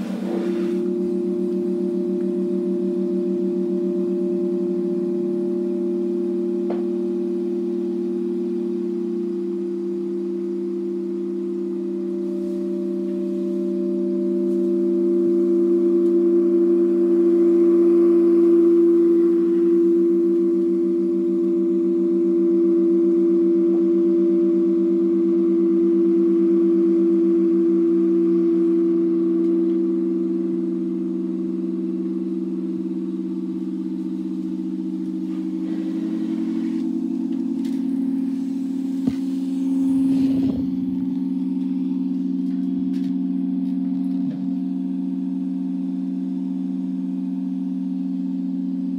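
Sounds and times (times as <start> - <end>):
pipe organ chord of low tones: 0.0 - 24.0, 28.3 - 48.4.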